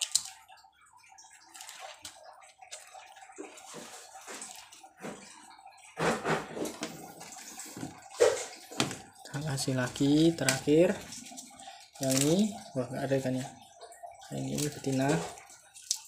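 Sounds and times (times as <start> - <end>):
water splashing in glass container: 0.0 - 16.0.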